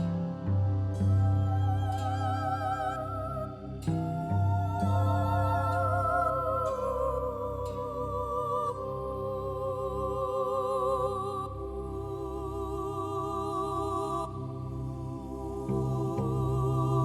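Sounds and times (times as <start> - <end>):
slow meditation music: 0.0 - 17.0.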